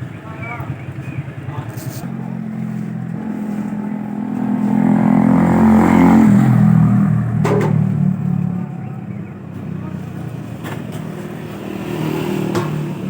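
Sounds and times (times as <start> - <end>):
motor vehicle engine running: 0.0 - 13.0.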